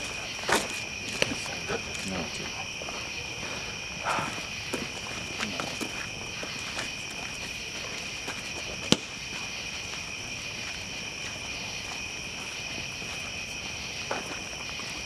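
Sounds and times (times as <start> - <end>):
campfire crackling and popping: 0.0 - 15.0
night insects trilling: 0.0 - 15.0.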